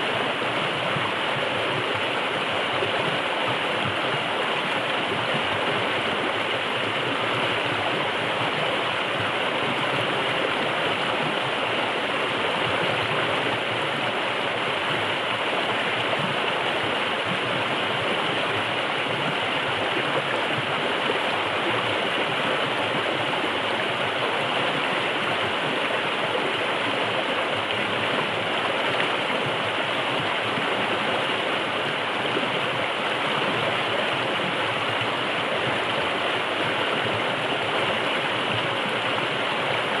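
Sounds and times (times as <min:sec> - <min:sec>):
water rushing over rocks: 0:00.0 - 0:40.0.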